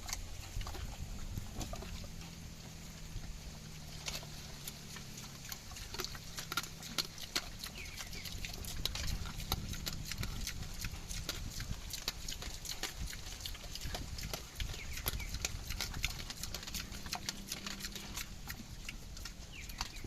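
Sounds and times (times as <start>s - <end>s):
low steady hum: 0.0s - 20.0s
pigs chewing crunchily: 0.0s - 20.0s.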